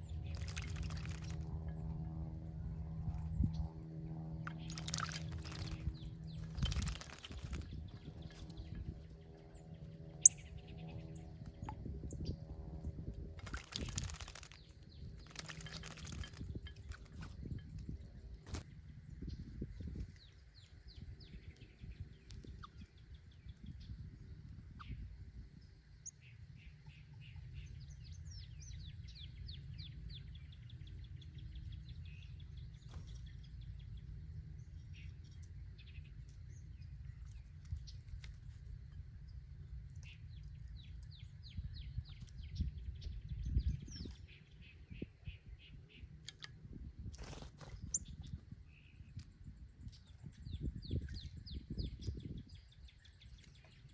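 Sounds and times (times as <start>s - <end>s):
small birds chirping: 0.0s - 2.0s, 2.9s - 12.5s, 13.4s - 53.9s
steady low rumble: 0.0s - 53.9s.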